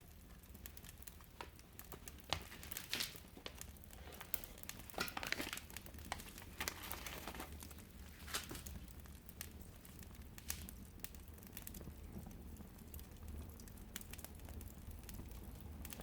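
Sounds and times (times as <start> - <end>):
firewood crackling and popping: 0.0 - 16.0
fire hissing: 0.1 - 16.0.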